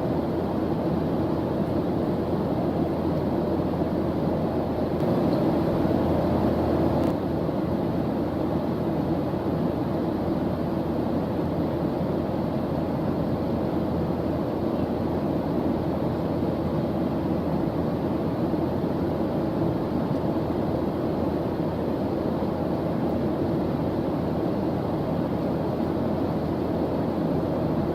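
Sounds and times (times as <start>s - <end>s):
deep white noise: 0.0s - 27.9s.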